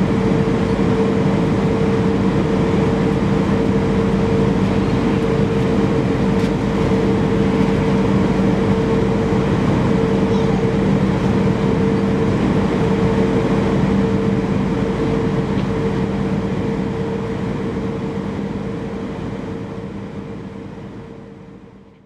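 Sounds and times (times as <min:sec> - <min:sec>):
airflow rushing in plane cabin: 0:00.0 - 0:22.0
jet engine drone: 0:00.0 - 0:22.0.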